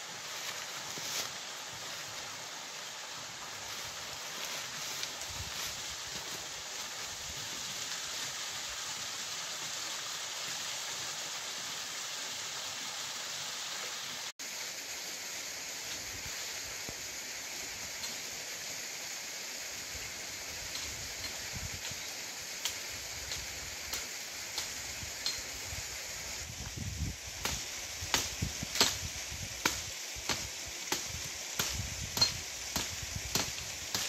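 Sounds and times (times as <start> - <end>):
waterfall pouring over rocks: 0.0 - 34.0.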